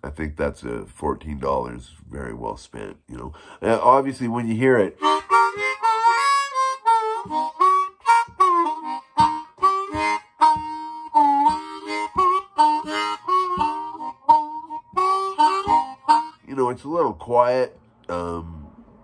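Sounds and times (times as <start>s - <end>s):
harmonica blues phrase: 0.4s - 18.6s.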